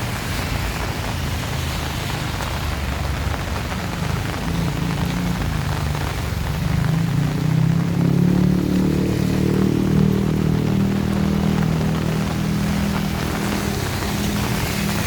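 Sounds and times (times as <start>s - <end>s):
heavy rain falling: 0.0s - 15.0s
low engine hum: 0.0s - 15.0s.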